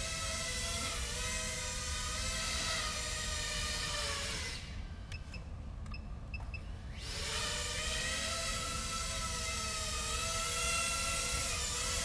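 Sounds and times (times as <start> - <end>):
quadcopter motors whining: 0.0 - 5.4, 6.8 - 12.0.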